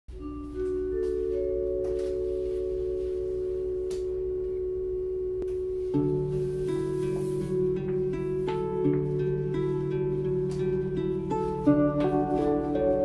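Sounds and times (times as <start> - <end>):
plucked string notes: 0.2 - 13.0.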